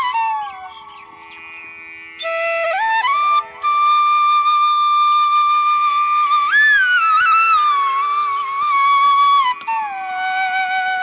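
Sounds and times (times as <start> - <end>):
wind instrument melody: 2.2 - 11.0.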